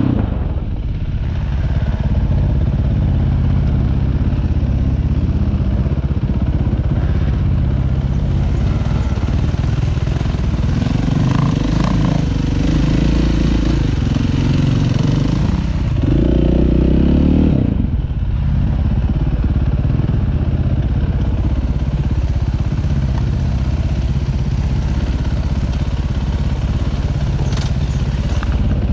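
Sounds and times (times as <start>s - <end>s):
dirt bike engine running: 0.0s - 28.9s.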